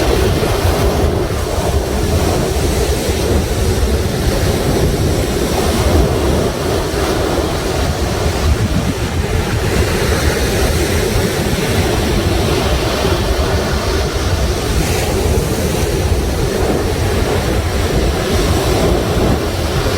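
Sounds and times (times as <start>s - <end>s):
sea waves breaking: 0.0s - 19.9s
wind buffeting microphone: 0.0s - 19.9s.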